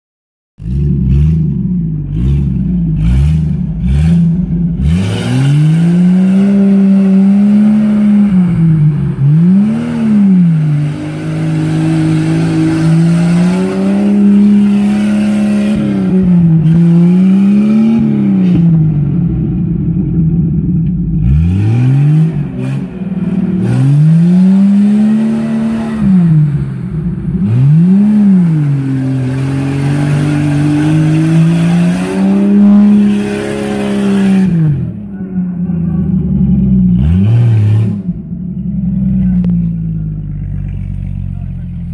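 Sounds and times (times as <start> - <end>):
engine revving hard: 0.6 - 19.3, 21.2 - 35.1, 36.1 - 38.2.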